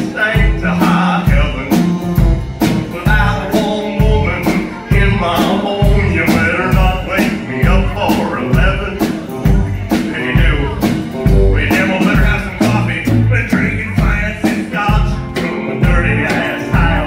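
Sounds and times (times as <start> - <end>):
country-rock band playing: 0.0 - 17.0
drum kit beat: 0.0 - 17.0
electric guitar: 0.0 - 17.0.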